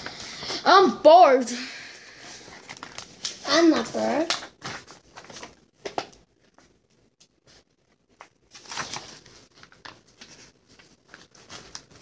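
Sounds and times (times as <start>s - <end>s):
sticker sheets rustling: 2.3s - 12.0s.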